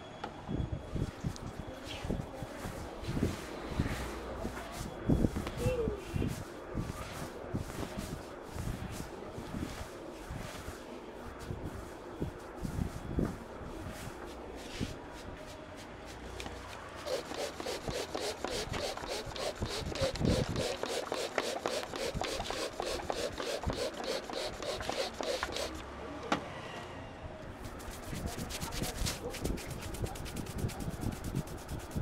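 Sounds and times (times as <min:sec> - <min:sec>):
hands rubbing through hair: 0:01.8 - 0:25.8, 0:27.6 - 0:32.0.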